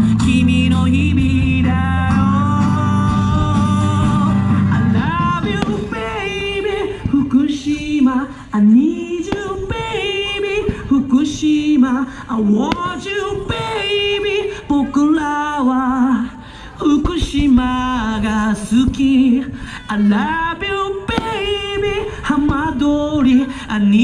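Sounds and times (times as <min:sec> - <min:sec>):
person singing a melody: 0:00.0 - 0:24.0.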